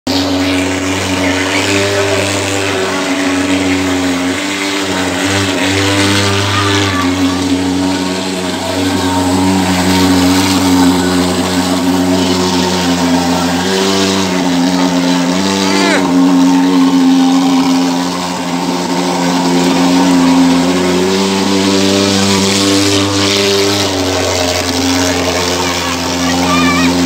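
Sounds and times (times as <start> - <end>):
fogging machine droning: 0.1 - 27.0.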